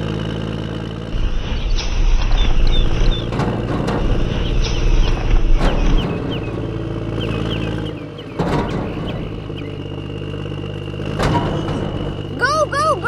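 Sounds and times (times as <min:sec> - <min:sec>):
motor humming: 0:00.0 - 0:13.0
clattering knocks: 0:01.1 - 0:12.4.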